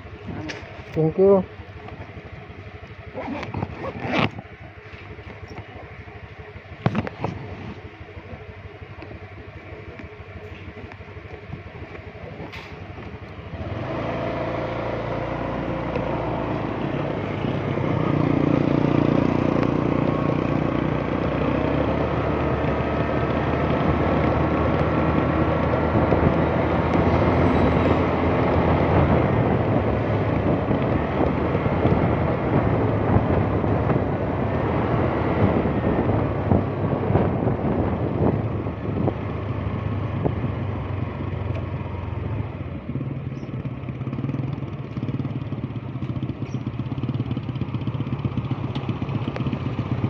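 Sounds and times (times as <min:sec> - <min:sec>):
motorcycle engine running: 0:00.0 - 0:50.0
road and wind noise: 0:00.0 - 0:50.0.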